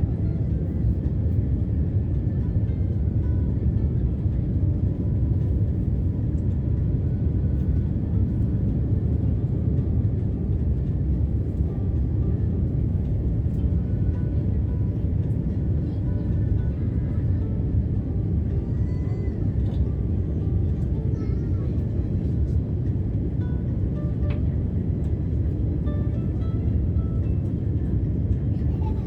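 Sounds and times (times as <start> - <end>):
jet cabin rumble: 0.0 - 29.0.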